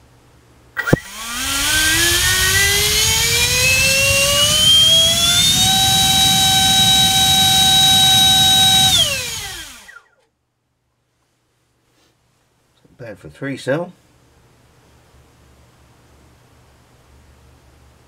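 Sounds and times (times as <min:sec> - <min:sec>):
electric ducted fan whine: 0:00.0 - 0:10.1, 0:12.6 - 0:18.0.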